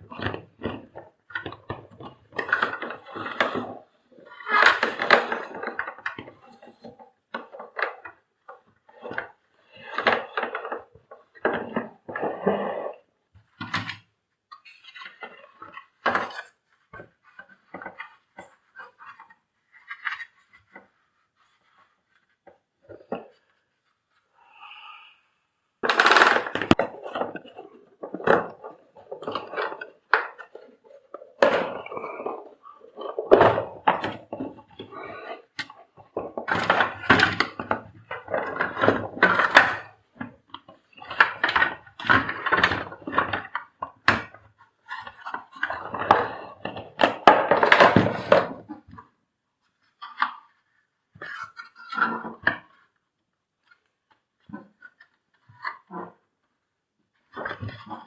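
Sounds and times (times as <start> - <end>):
plastic parts knocking and scraping: 0.0 - 24.2, 25.8 - 58.0.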